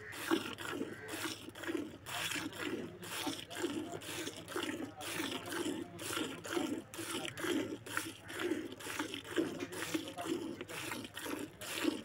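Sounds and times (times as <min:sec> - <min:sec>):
milk squirting into a bucket: 0:00.0 - 0:12.0.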